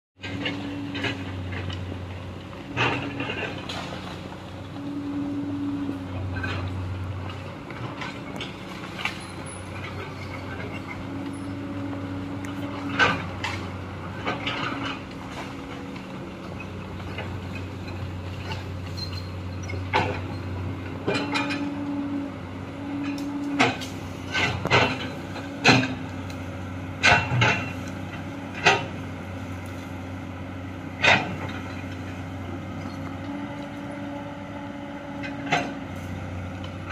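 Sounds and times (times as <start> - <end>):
excavator engine running: 0.2 - 36.9.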